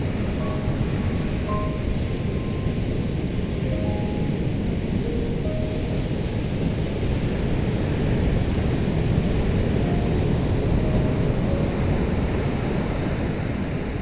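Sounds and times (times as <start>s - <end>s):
waves washing in: 0.0s - 14.0s.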